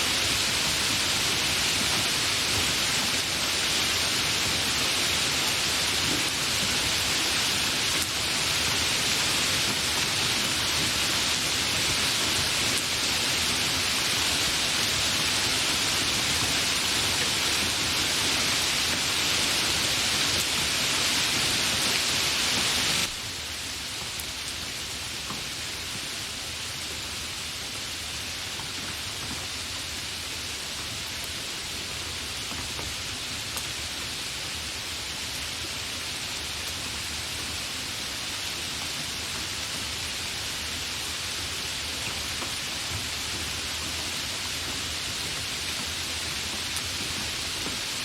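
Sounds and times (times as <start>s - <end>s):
dense rain pattering: 0.0s - 48.0s.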